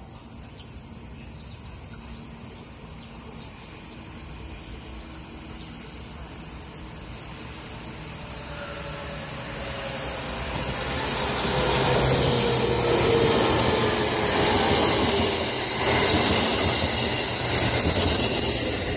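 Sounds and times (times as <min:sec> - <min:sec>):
electric train running noise: 0:02.0 - 0:18.9.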